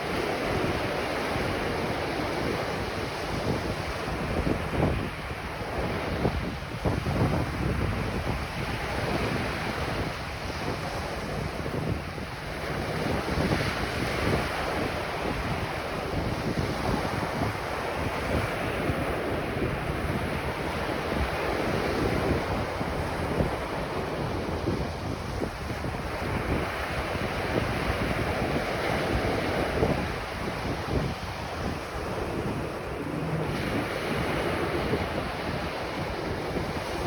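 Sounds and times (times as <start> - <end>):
ocean surf washing ashore: 0.0 - 37.0
wind buffeting microphone: 0.0 - 37.0.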